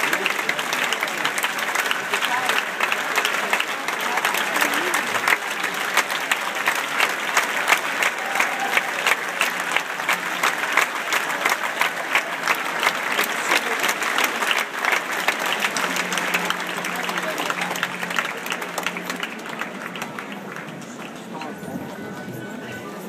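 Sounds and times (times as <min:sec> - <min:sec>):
audience applause: 0:00.0 - 0:23.0.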